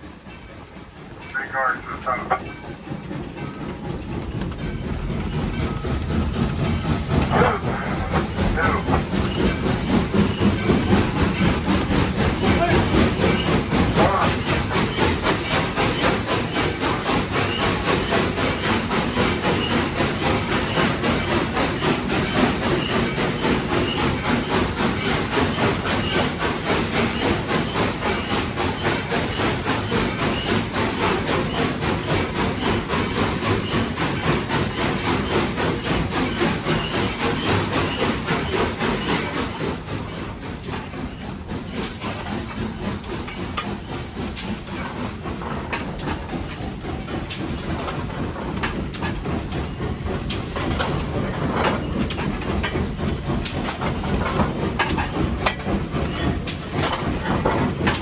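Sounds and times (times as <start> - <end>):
steam hissing: 0.0 - 58.0
steam locomotive exhaust chuffs: 0.0 - 58.0.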